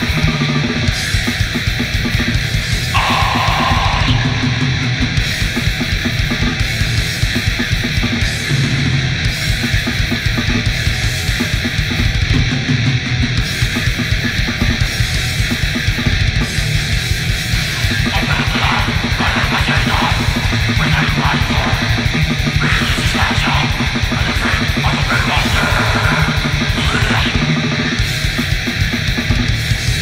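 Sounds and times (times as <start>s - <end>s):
distorted guitars: 0.0s - 30.0s
fast drumming: 0.0s - 30.0s.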